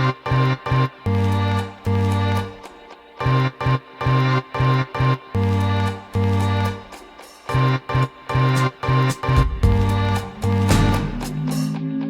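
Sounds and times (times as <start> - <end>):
bouncy instrumental music: 0.0 - 11.8.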